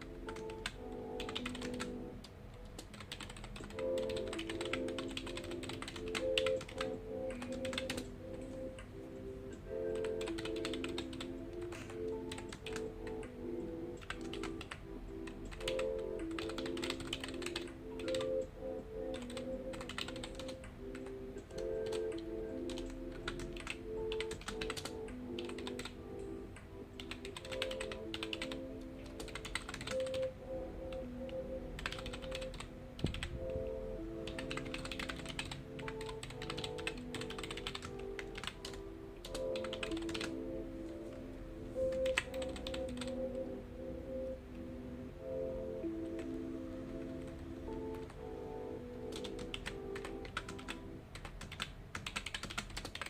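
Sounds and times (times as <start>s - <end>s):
keyboard typing: 0.0s - 44.7s, 45.3s - 53.0s
soft background music: 0.0s - 53.0s.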